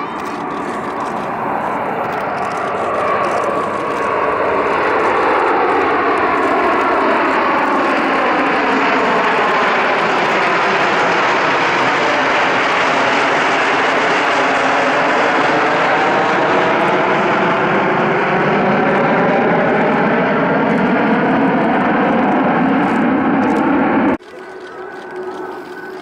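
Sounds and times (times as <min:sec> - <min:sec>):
jet fighters roaring overhead: 0:00.0 - 0:26.0.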